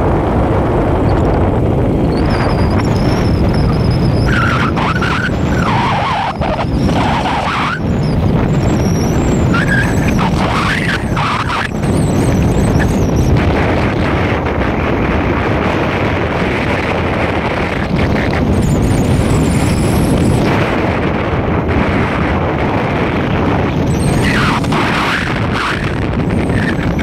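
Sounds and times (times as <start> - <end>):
vehicle road noise: 0.0 - 27.0
wind buffeting microphone: 0.0 - 27.0.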